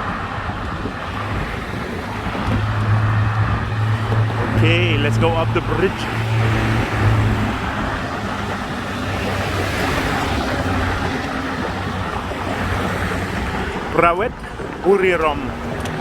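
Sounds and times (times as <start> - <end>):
highway traffic passing: 0.0 - 16.0
low engine hum: 0.0 - 16.0.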